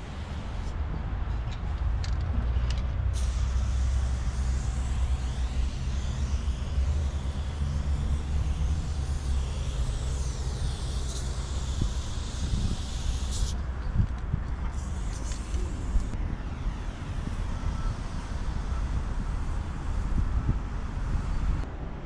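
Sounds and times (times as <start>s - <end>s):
wind rumble on microphone: 0.0s - 22.0s
spray paint can hissing: 3.1s - 21.7s.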